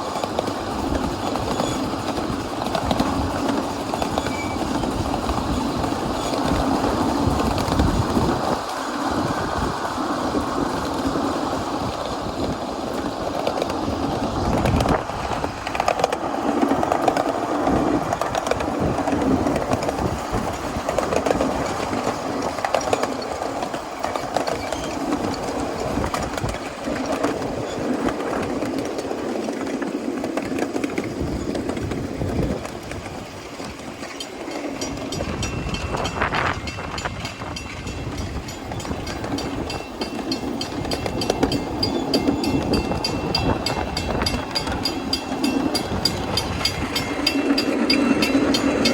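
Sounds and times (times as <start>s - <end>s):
miniature steam train rattling: 0.0s - 48.9s.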